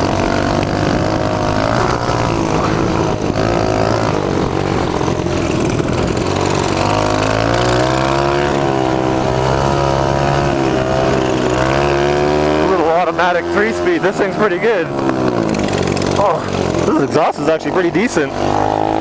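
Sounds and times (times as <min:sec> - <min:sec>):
mini bike engine running: 0:00.0 - 0:19.0.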